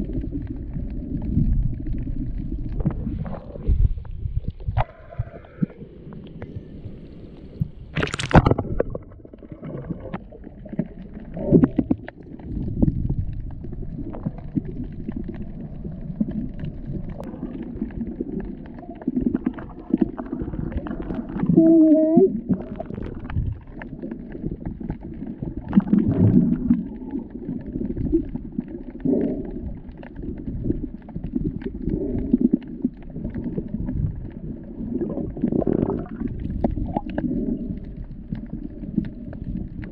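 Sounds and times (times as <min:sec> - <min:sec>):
underwater rumbling and gurgling: 0:00.0 - 0:39.9.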